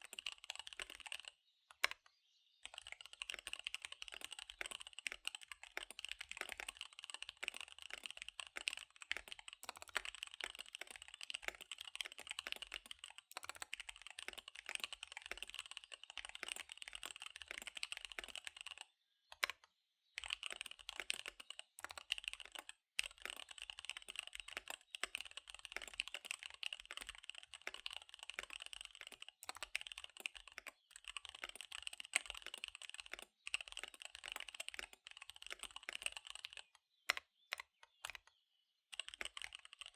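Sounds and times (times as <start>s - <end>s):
mechanical keyboard typing: 0.0s - 2.0s, 2.6s - 19.6s, 20.2s - 38.3s, 38.9s - 39.9s.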